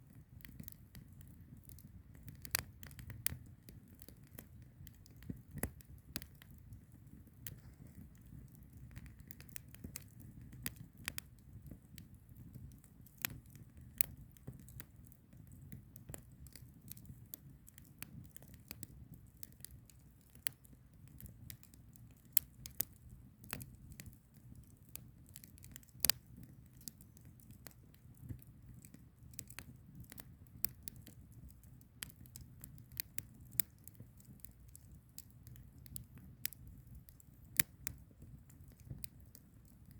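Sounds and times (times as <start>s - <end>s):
firewood crackling and popping: 0.0s - 39.9s
low rumble of flames: 0.0s - 39.9s.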